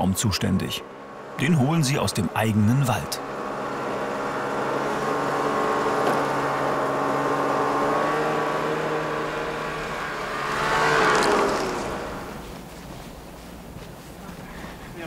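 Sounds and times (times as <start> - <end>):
snowmobile engine running: 0.1 - 15.0.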